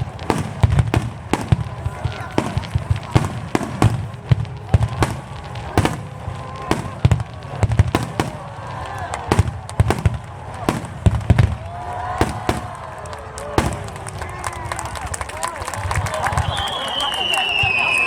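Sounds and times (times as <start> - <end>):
fireworks booming: 0.0 - 15.1
small firework pops: 0.0 - 18.0.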